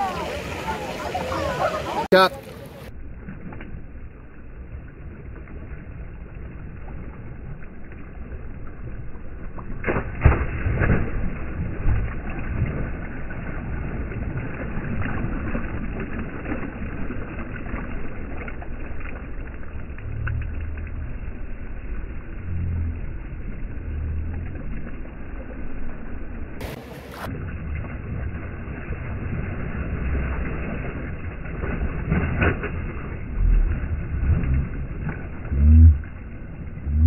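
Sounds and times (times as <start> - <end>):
pool water splashing: 0.0 - 37.0.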